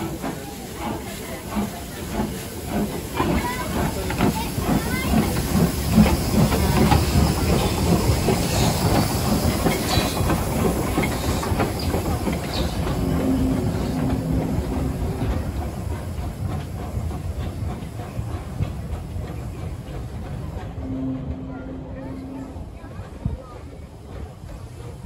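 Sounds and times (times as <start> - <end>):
steam hissing: 0.0 - 20.8
train wheels clicking over rail joints: 0.0 - 20.8.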